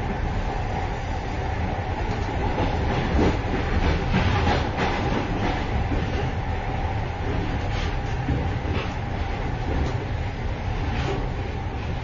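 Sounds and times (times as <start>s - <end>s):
low rumble of running train: 0.0s - 12.0s.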